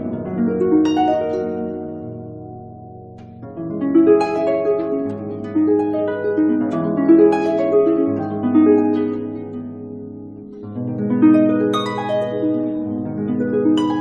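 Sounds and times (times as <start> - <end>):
harp music: 0.0 - 14.0.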